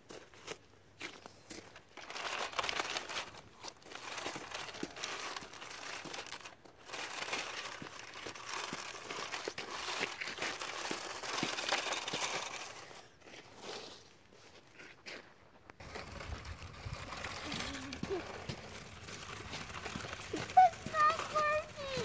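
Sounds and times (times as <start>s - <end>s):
toy truck wheels crunching on ice: 0.1s - 22.0s.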